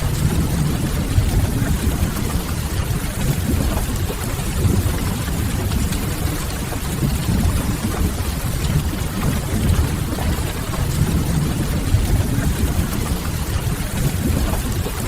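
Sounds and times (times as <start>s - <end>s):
rain on window glass: 0.0s - 15.0s.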